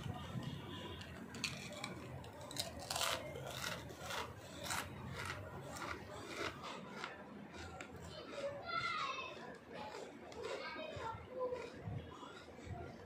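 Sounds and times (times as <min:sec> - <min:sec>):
person chewing potato chips: 0:00.0 - 0:13.0.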